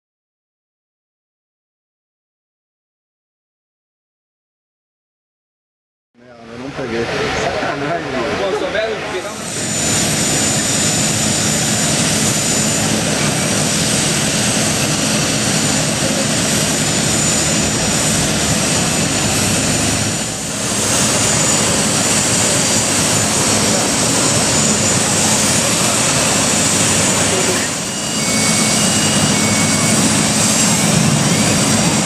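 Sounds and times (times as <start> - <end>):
airplane cabin air and engine rush: 6.3 - 32.0.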